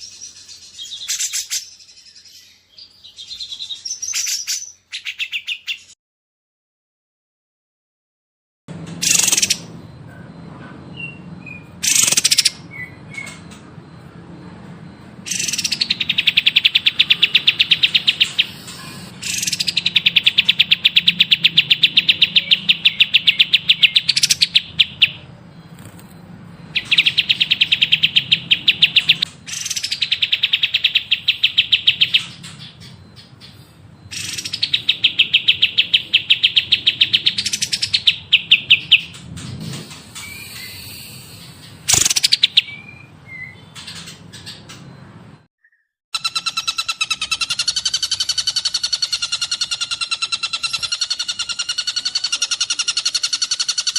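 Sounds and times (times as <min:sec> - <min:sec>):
songbird trilling: 0:00.0 - 0:06.0, 0:08.9 - 0:10.3, 0:10.9 - 0:14.1, 0:14.9 - 0:39.3, 0:40.0 - 0:44.9, 0:45.6 - 0:53.9.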